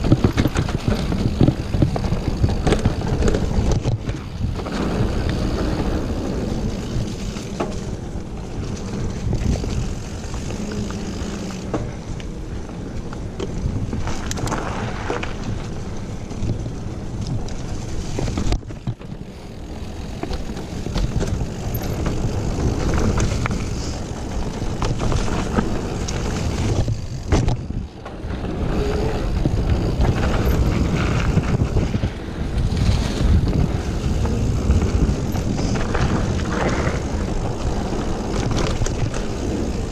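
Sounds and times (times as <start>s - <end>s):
small clicks and rattles: 0.0s - 5.8s, 12.9s - 39.9s
bike tyres rolling on dirt: 0.0s - 39.9s
wind buffeting microphone: 0.0s - 39.9s.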